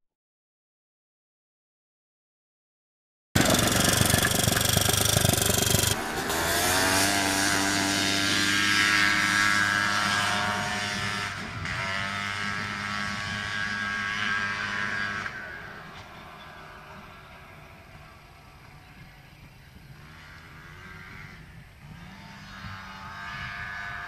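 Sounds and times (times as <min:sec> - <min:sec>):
buggy engine revving: 0:03.4 - 0:24.0.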